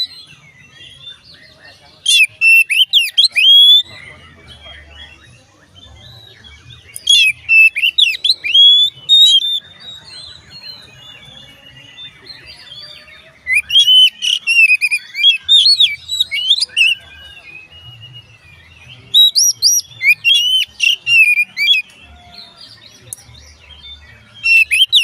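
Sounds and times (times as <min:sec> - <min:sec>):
bird singing whistles and chirps: 0:00.0 - 0:25.0.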